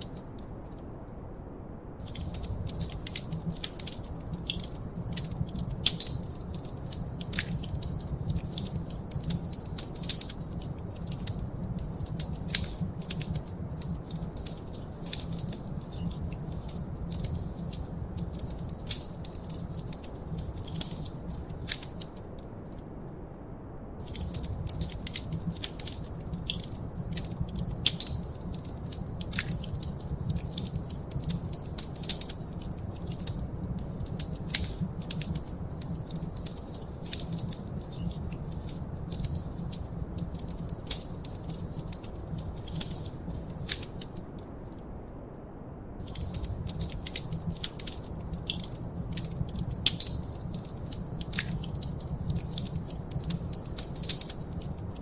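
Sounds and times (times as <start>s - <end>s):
fire crackling and popping: 0.0s - 1.2s, 2.0s - 23.0s, 24.0s - 45.1s, 46.0s - 55.0s
low fire rumble: 1.6s - 55.0s.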